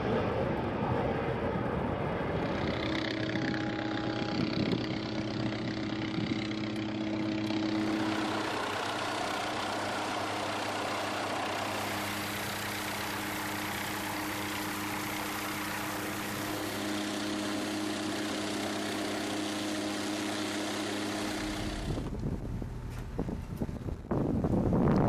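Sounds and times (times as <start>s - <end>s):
helicopter turbine and rotor hum: 0.0s - 25.0s.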